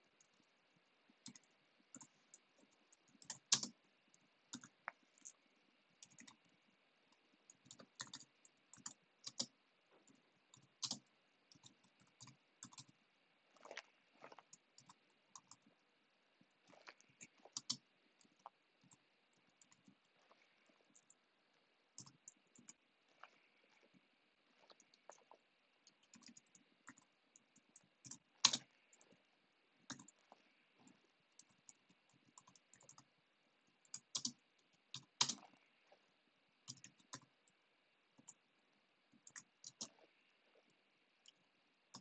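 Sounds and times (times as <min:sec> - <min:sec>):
faint keyboard typing: 0:00.0 - 0:42.0.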